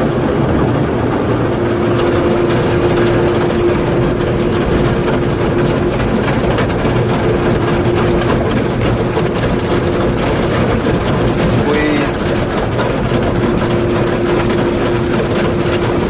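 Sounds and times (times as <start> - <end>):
mechanical rumble: 0.0 - 16.0
steady hum: 0.0 - 16.0.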